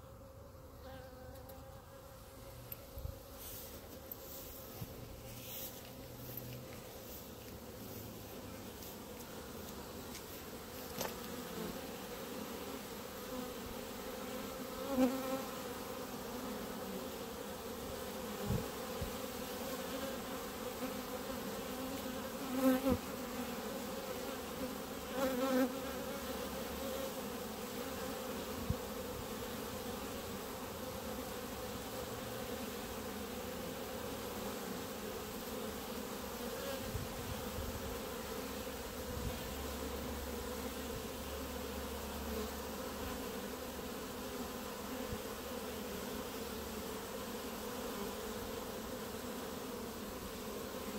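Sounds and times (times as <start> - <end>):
honeybees buzzing: 0.0 - 50.9.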